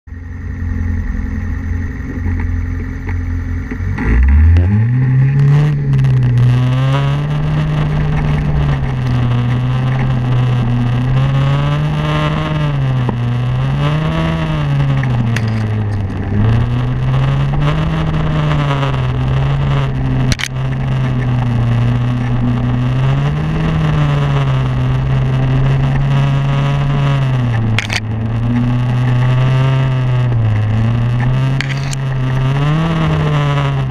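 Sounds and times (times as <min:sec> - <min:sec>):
snowmobile engine revving: 0:00.8 - 0:33.9.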